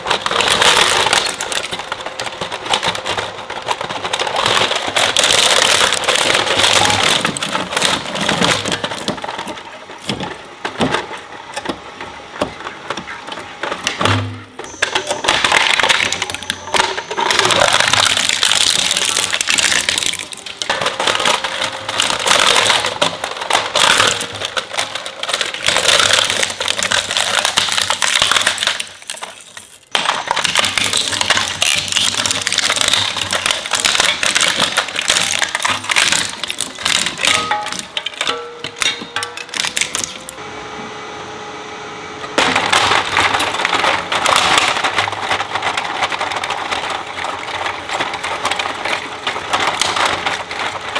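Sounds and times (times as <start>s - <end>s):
shredder crunching plastic: 0.0s - 40.7s, 42.2s - 50.9s
steady machine hum: 0.0s - 50.9s.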